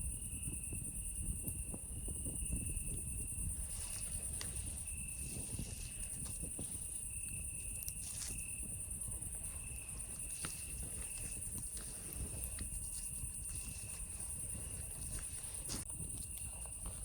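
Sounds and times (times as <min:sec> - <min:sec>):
night insects chorus: 0:00.0 - 0:17.0
shrill insect trill: 0:00.0 - 0:17.0
campfire crackling and popping: 0:01.4 - 0:17.0.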